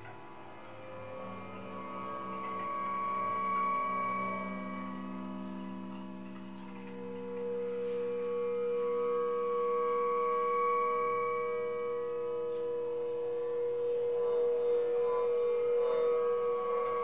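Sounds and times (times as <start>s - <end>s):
higher tone: 0.0s - 17.0s
layered drone of held tones: 0.0s - 17.0s.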